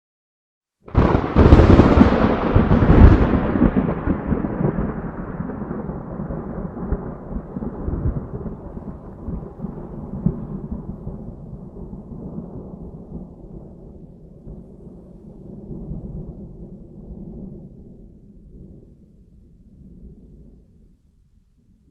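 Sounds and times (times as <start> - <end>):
thunderclap rumbling: 0.9 - 21.0.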